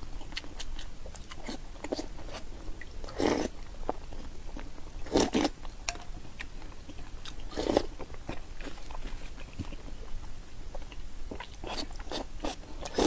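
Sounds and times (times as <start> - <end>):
chewing and mouth sounds: 0.1 - 10.0, 10.7 - 13.0.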